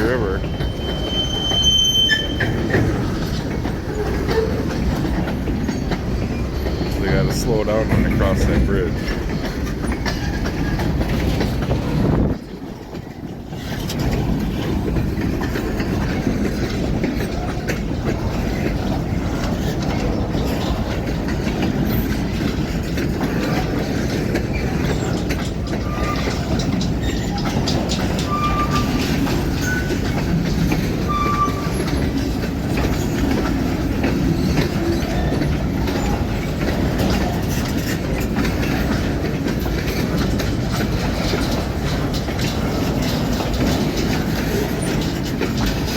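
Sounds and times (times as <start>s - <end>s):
clickety-clack over rail joints: 0.0s - 45.9s
train wheels rumbling on rail: 0.0s - 45.9s.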